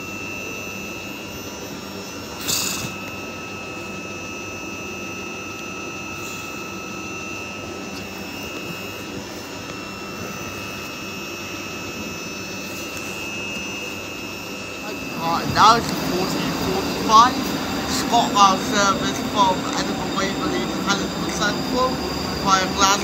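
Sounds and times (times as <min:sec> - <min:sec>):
constant high whine: 0:00.0 - 0:23.0
electric train hum: 0:00.0 - 0:23.0.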